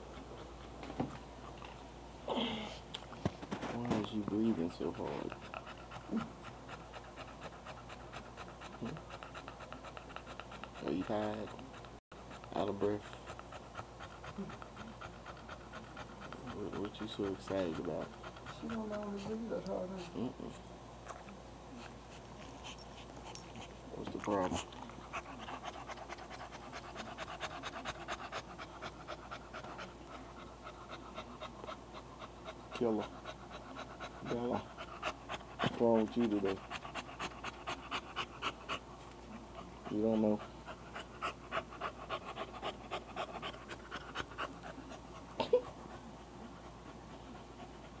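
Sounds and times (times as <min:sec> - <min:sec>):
dog panting heavily: 0:00.0 - 0:01.3, 0:03.3 - 0:20.6, 0:21.7 - 0:48.0.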